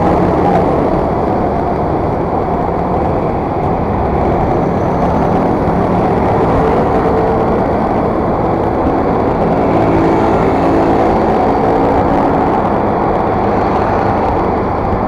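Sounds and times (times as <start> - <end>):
scooter engine: 0.0 - 15.0
wind on microphone: 0.0 - 15.0.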